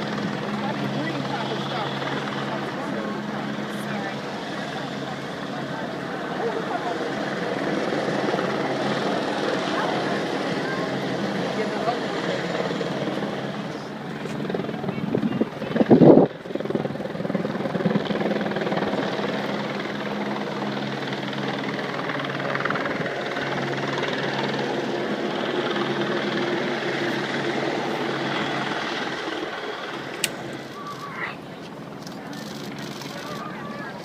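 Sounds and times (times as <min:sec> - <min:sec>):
helicopter rotor drone: 0:00.0 - 0:34.0.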